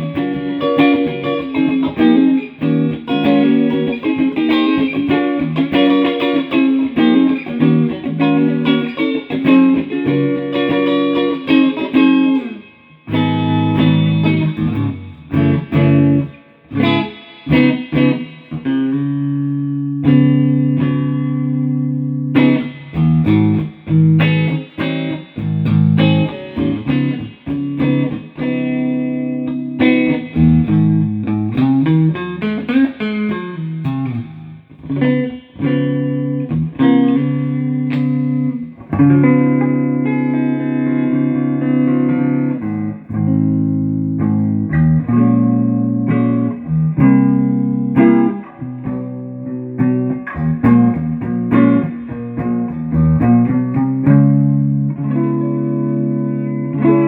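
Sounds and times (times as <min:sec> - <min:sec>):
electric guitar playing: 0:00.0 - 0:57.0.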